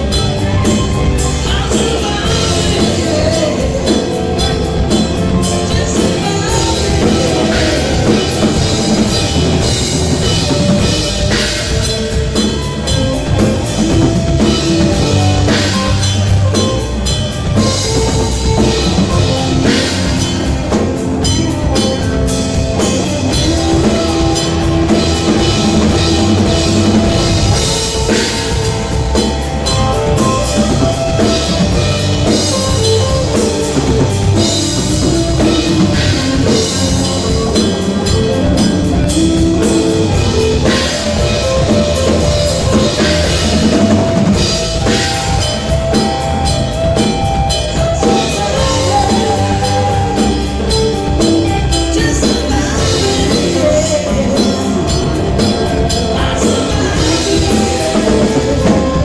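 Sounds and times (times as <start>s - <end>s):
drum kit beat: 0.0s - 59.0s
rock band playing: 0.0s - 59.0s.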